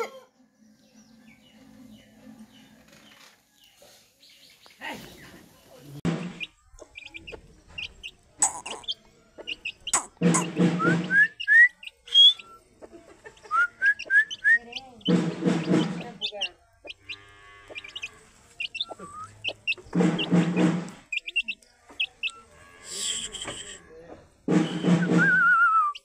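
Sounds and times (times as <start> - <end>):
chicks peeping and chirping: 0.8 - 25.2.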